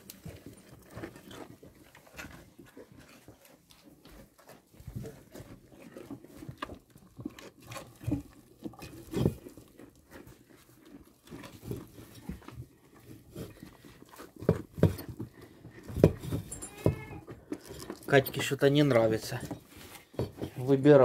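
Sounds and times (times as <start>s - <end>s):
goat chewing and slurping: 0.0s - 21.0s.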